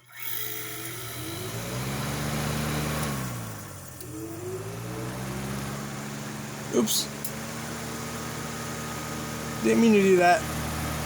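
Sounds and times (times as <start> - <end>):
fan motor humming: 0.1 - 11.0.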